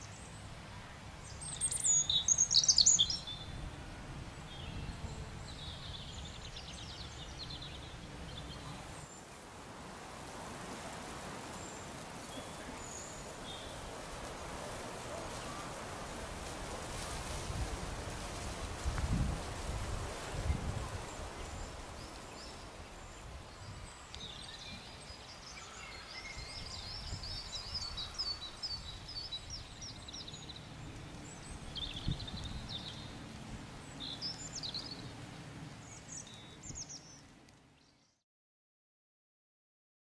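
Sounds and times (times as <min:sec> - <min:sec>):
songbirds chirping: 0:00.0 - 0:38.2.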